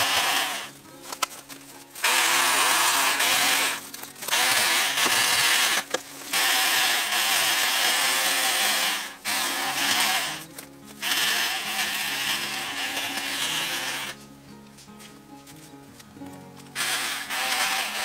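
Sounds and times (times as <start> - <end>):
electric chainsaw cutting bamboo: 0.0 - 1.2, 2.0 - 14.2, 16.8 - 18.0.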